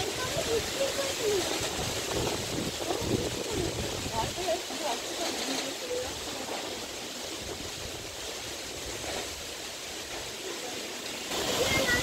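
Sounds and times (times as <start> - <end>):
gusty wind through trees: 0.0 - 12.0.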